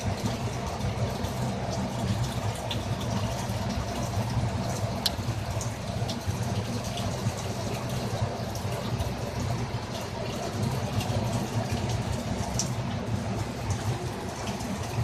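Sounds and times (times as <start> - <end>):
drip-like ticks: 0.0 - 15.0
low pump hum: 0.0 - 15.0
trickling splashing water: 0.0 - 15.0.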